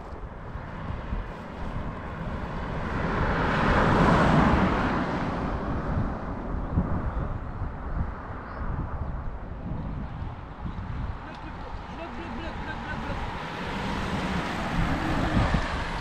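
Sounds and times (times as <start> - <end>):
road vehicle passing: 0.0 - 16.0.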